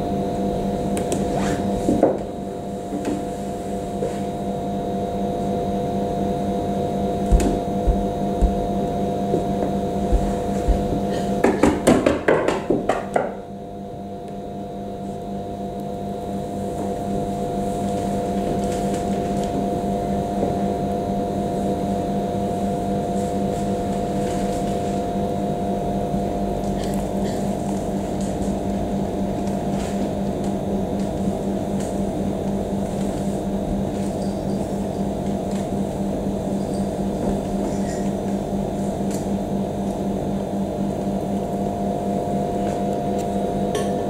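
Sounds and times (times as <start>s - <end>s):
mechanical room hum with tones: 0.0s - 44.0s.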